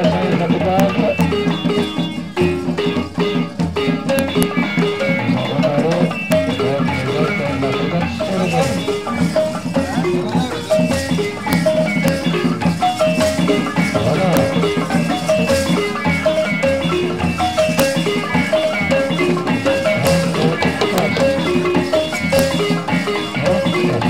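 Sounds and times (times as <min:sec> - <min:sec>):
drums: 0:00.0 - 0:24.0
shaken rattles: 0:00.0 - 0:24.0
wooden xylophone melody: 0:00.0 - 0:24.0.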